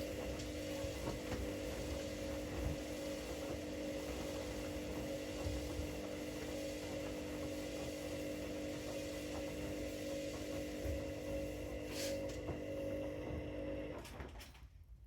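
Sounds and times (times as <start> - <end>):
washing machine motor hum: 0.0 - 14.5.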